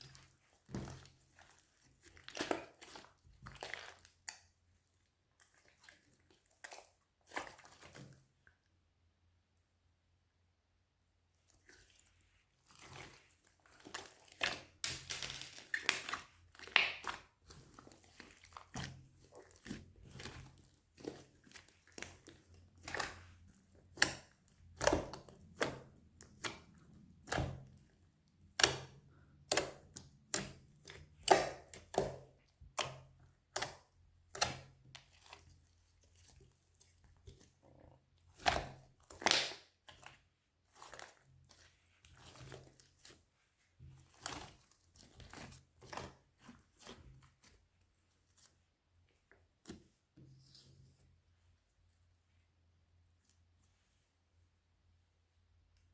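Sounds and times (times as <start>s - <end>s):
slime squishing by hand: 0.0s - 8.5s, 11.3s - 52.4s.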